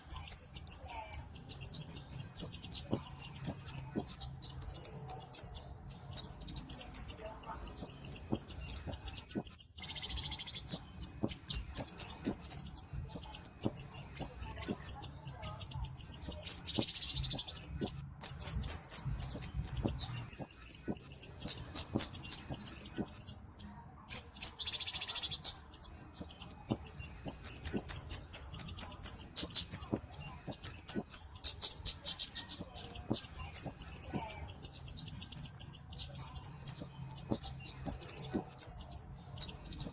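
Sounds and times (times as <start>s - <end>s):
high thin bird chirps and trills: 0.0s - 39.9s.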